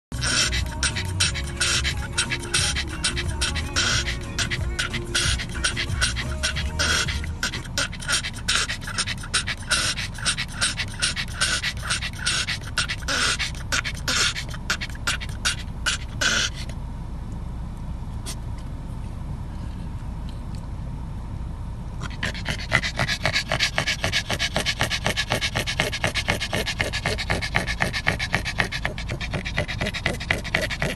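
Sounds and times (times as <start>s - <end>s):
dog panting rapidly: 0.1s - 16.7s, 22.0s - 30.9s
low steady rumble: 0.1s - 30.9s.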